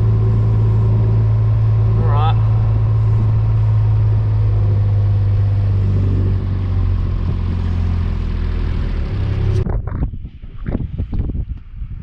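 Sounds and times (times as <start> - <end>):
farm vehicle engine humming: 0.0 - 10.6.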